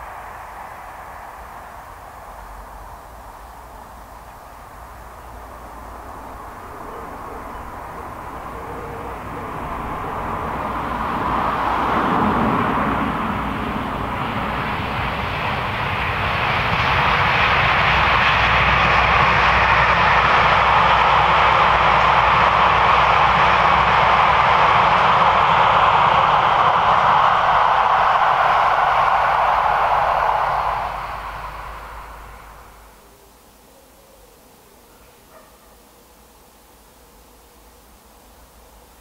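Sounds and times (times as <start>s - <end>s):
distant train passing: 0.0s - 39.0s.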